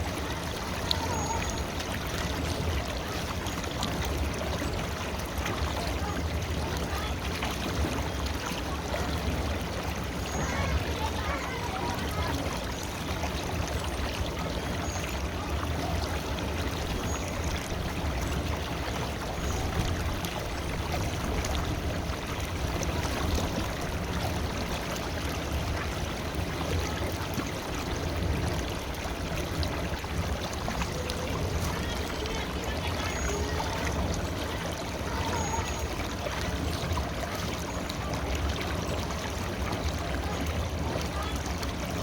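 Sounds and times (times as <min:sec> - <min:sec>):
river water flowing: 0:00.0 - 0:42.0.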